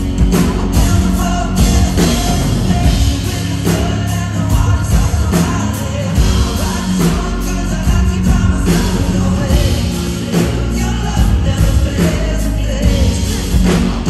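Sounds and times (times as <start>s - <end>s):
drums: 0.0s - 14.0s
live band music: 0.0s - 14.0s
man singing into microphone: 0.0s - 14.0s.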